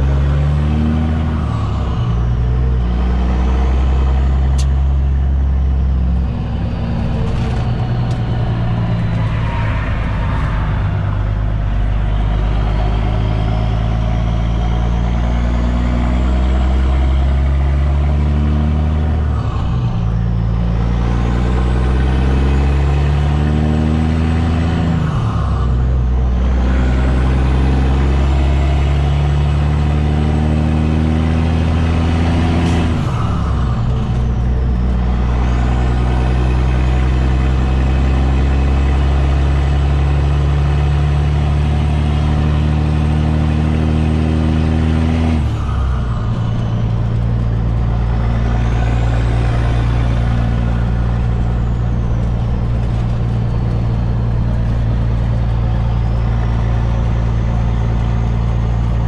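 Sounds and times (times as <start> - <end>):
diesel truck engine accelerating: 0.0 - 59.0.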